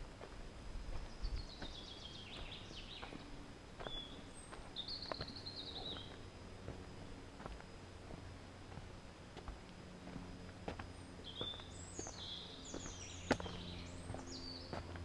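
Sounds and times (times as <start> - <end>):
footsteps on trail: 0.0 - 15.0
songbird singing: 0.0 - 15.0.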